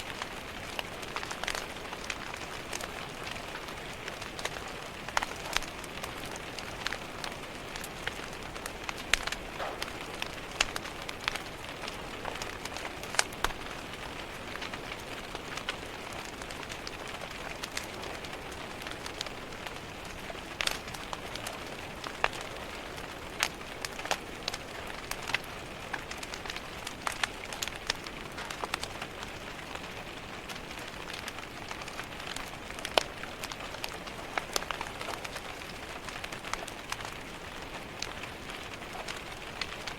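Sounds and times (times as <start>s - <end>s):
rain pattering on a window: 0.0s - 39.9s
wood fire crackling and popping: 0.0s - 39.9s.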